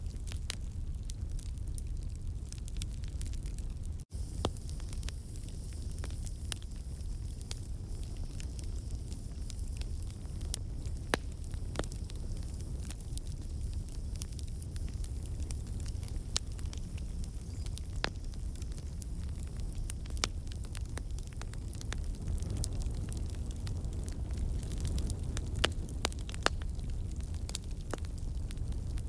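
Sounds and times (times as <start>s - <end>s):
campfire crackling: 0.0s - 29.0s
fire low rumble: 0.0s - 29.0s.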